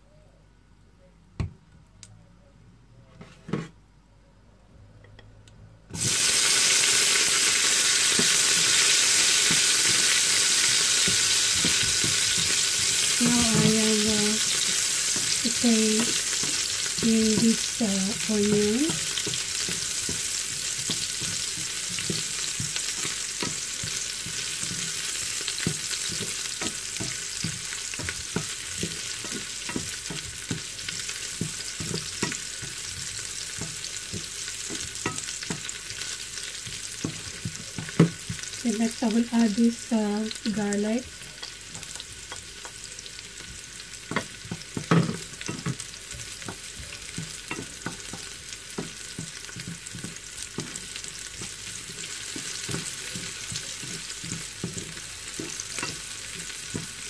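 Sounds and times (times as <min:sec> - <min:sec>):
onion sizzling in oil: 0:05.9 - 0:57.0.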